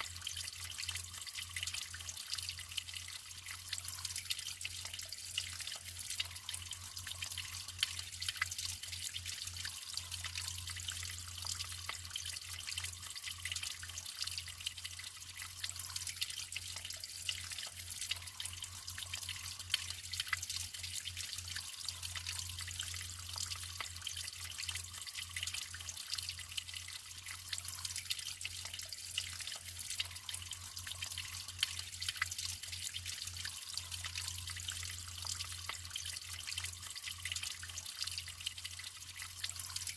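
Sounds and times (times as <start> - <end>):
small splashes and drips: 0.0 - 39.9
water trickling: 0.0 - 39.9.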